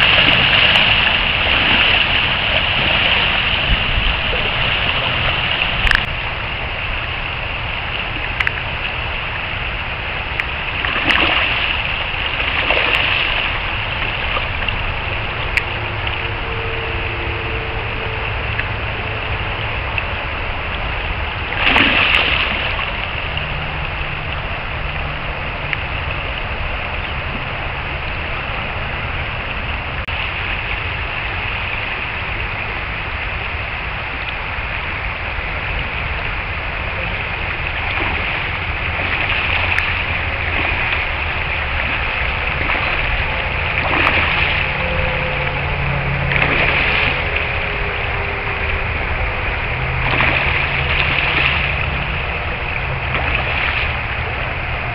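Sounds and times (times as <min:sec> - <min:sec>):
river running over rocks: 0:00.0 - 0:54.9
water splashes: 0:00.0 - 0:54.9.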